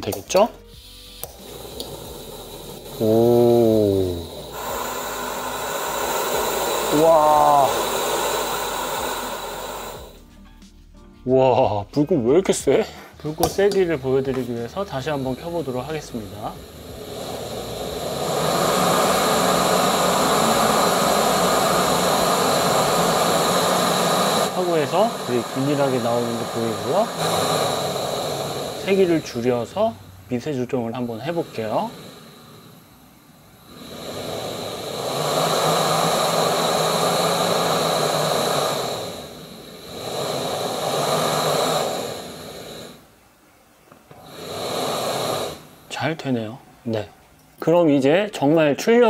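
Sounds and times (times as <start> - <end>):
gas stove burner hissing: 0.0 - 10.3, 12.5 - 49.0.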